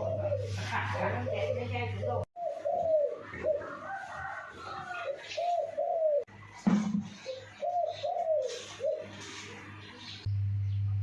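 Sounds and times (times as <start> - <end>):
dove cooing: 0.0 - 6.3, 7.0 - 9.7.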